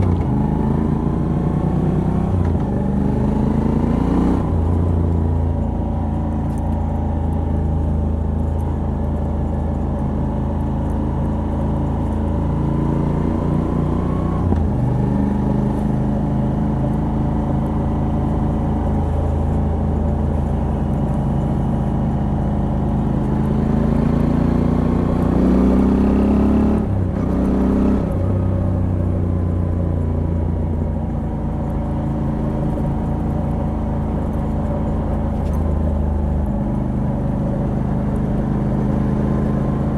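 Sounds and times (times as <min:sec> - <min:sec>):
motorcycle engine revving: 0:00.0 - 0:05.5, 0:11.6 - 0:39.9.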